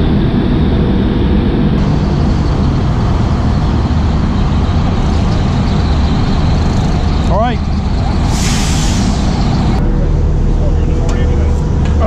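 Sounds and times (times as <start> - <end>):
heavy engines droning: 0.0 - 12.0.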